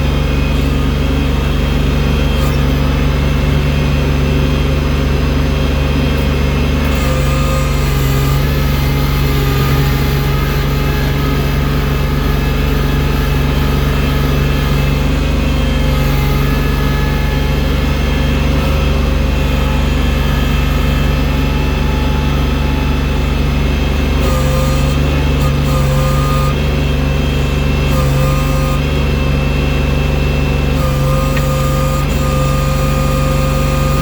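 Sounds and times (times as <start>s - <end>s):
loader engine running: 0.0s - 34.0s.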